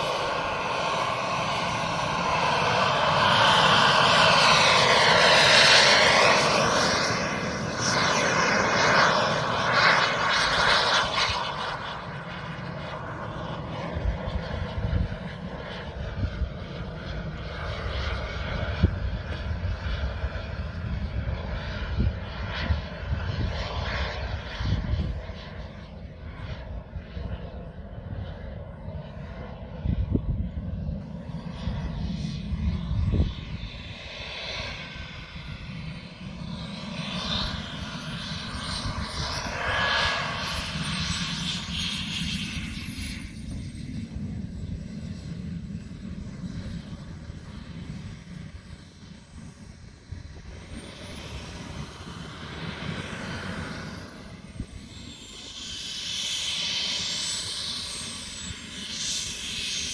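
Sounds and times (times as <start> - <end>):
model jet engine whine: 0.0 - 59.9.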